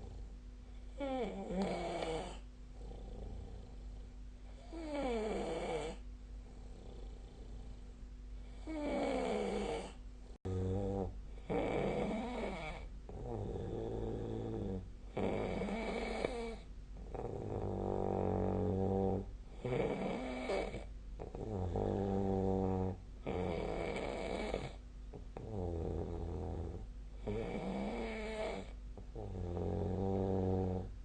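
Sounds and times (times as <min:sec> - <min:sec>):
person snoring: 0:01.0 - 0:04.0, 0:04.6 - 0:06.0, 0:08.5 - 0:24.8, 0:25.4 - 0:30.9.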